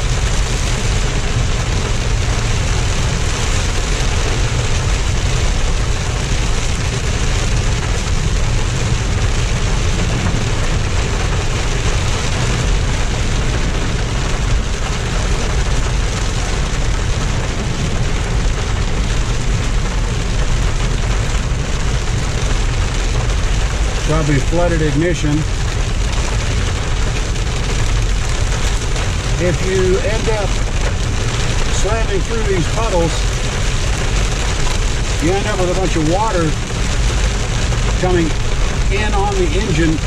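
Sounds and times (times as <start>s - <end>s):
heavy rain on car roof: 0.0s - 40.0s
road and engine rumble: 0.0s - 40.0s.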